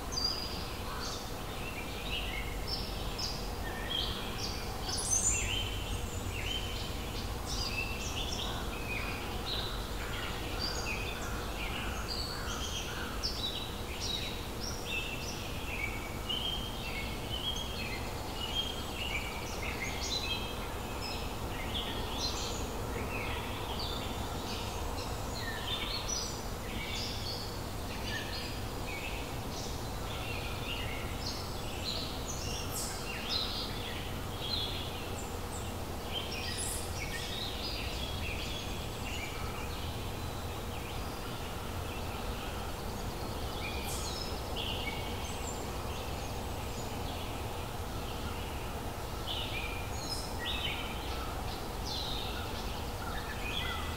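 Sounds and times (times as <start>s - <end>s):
small birds chirping: 0.0s - 53.9s
steady background noise: 0.0s - 53.9s.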